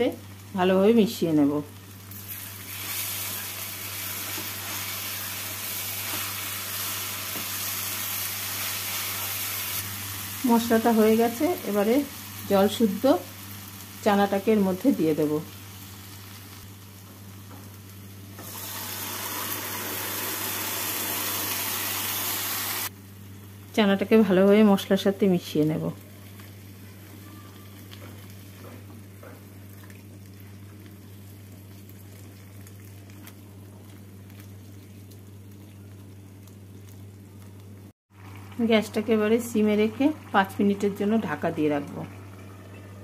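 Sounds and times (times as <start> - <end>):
loud steady sizzle: 0.0 - 43.0.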